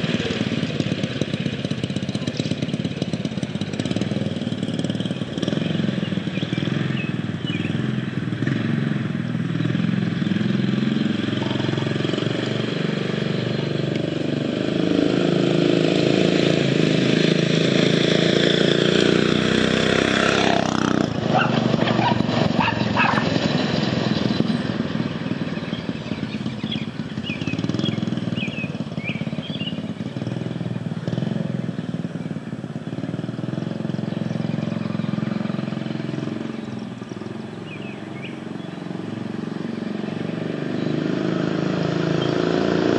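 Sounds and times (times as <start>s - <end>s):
mini bike engine running: 0.0s - 42.9s.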